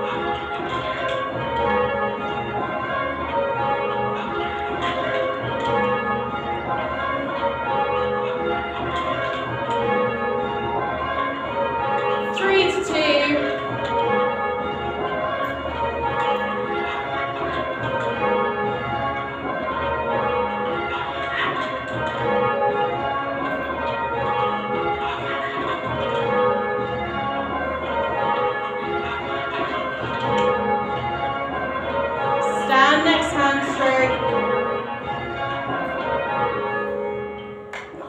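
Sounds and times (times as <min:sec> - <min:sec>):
church bells ringing changes: 0:00.0 - 0:38.0.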